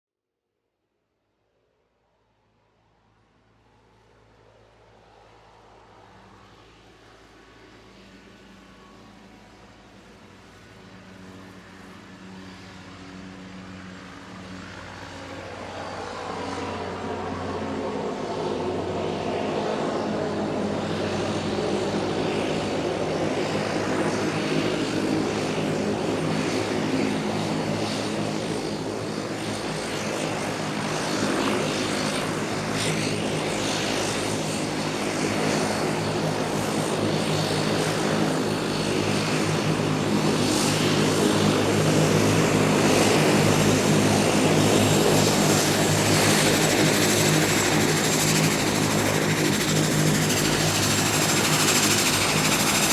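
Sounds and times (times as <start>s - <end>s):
airplane engines taking off: 1.8s - 52.9s.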